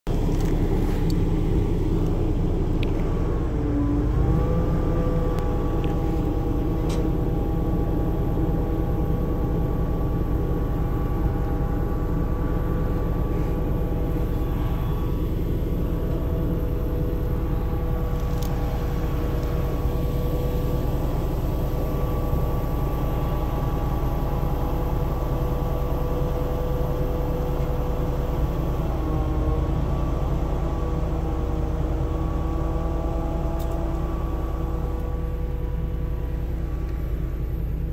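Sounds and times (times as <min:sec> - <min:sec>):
truck engine rumble: 0:00.0 - 0:37.9
hydraulic whine: 0:00.1 - 0:37.9.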